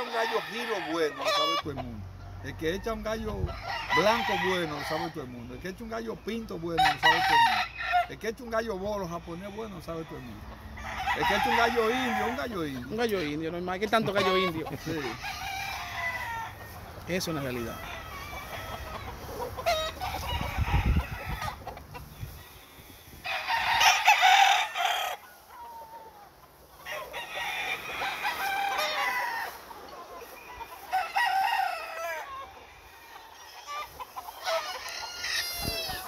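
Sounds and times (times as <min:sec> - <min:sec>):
roosters crowing: 0:00.0 - 0:36.0.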